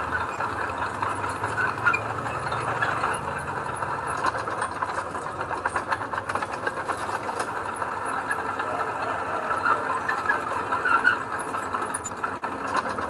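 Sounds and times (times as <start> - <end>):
diesel engine running: 0.0 - 13.0
small clicks and rattles: 0.0 - 13.0.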